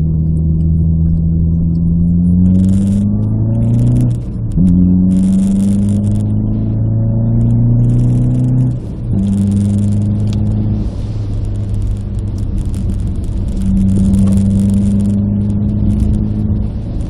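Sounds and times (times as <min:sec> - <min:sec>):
car engine under throttle: 0:00.0 - 0:17.0.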